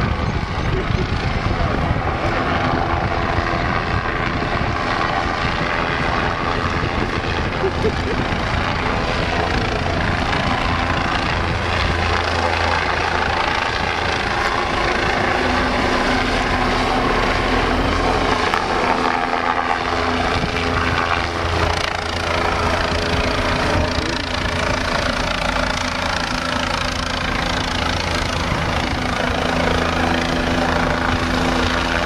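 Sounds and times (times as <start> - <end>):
low-flying helicopter: 0.0 - 32.0.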